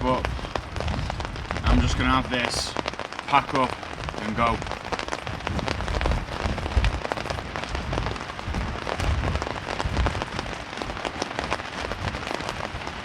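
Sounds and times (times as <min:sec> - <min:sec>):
rain pattering on a tarp: 0:00.0 - 0:13.0
wind rumble on microphone: 0:00.0 - 0:13.0.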